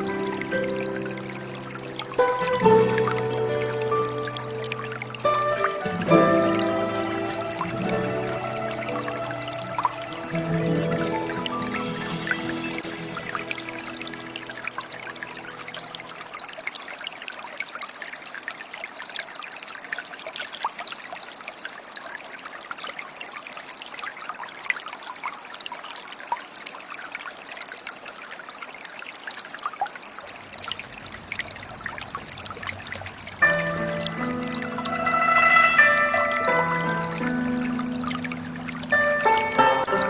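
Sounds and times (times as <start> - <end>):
water trickling and splashing: 0.0 - 40.0.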